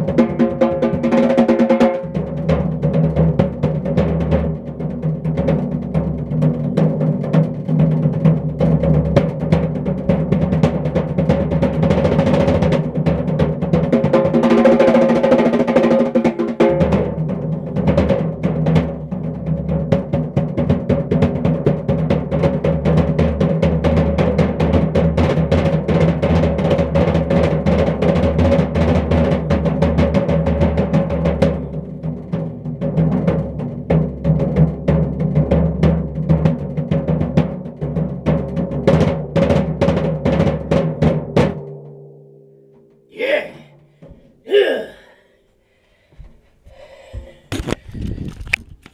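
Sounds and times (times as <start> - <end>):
hand drum roll on tom and snare: 0.0 - 43.0.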